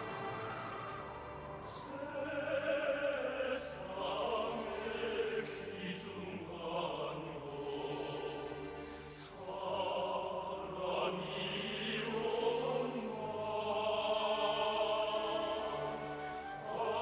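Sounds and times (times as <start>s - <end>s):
operatic singing: 0.0s - 17.0s
sustained musical accompaniment: 0.0s - 17.0s.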